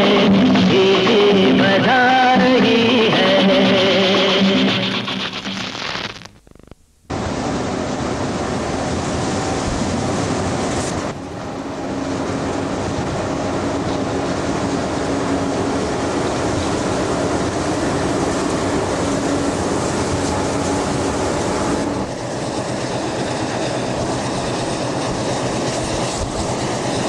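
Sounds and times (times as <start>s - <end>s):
locomotive running from cab: 0.0s - 5.5s, 7.1s - 27.0s.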